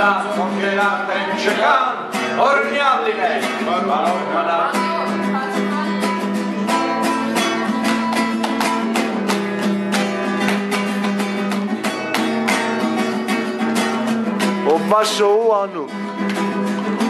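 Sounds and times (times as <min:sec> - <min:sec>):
classical guitar strummed: 0:00.0 - 0:17.0.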